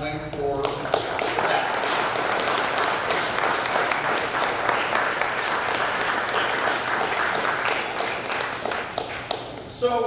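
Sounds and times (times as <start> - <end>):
crowd applauding: 0.7 - 9.6.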